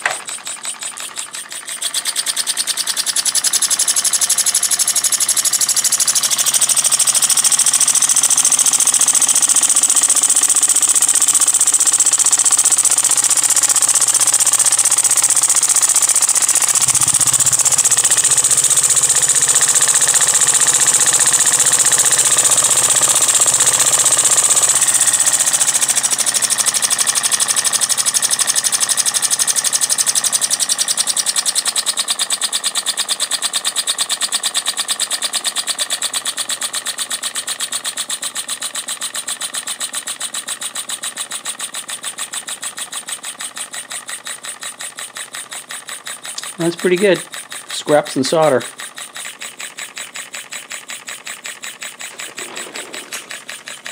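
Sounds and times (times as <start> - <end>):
model steam engine chuffing: 0.0 - 53.9.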